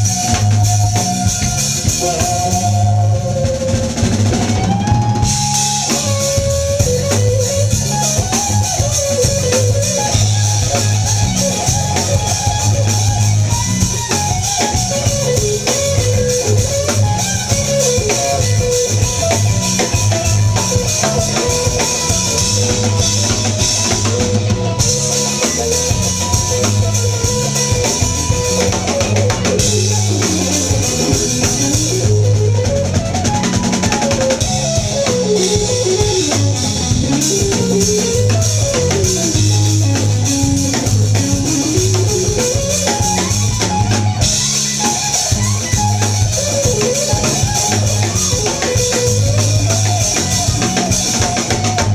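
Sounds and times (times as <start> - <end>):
drum kit and bass beat: 0.0 - 51.9
lead guitar line bending: 0.0 - 51.9.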